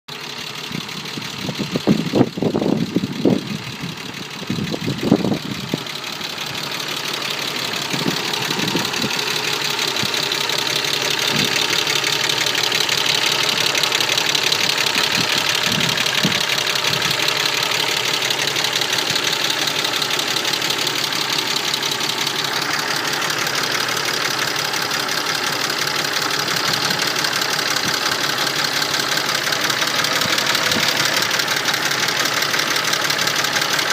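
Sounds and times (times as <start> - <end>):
engine knocks: 0.1 - 33.9
engine lifters clattering: 0.1 - 33.9.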